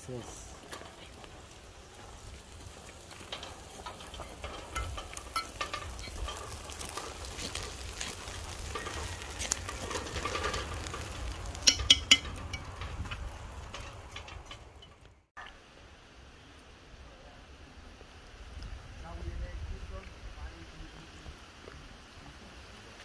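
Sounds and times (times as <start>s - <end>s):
light sizzle: 0.0s - 23.0s.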